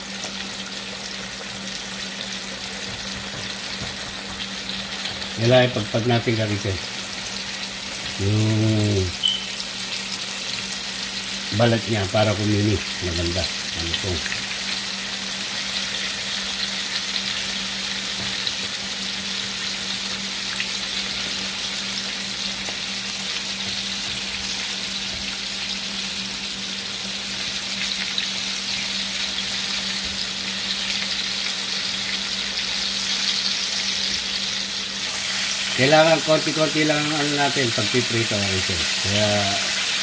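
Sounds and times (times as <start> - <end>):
oil sizzling while deep-frying: 0.0 - 40.0.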